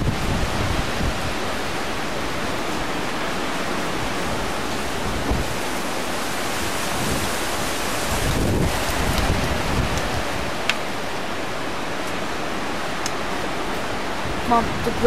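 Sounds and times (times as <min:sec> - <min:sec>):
wind gusting through pine trees: 0:00.0 - 0:15.0.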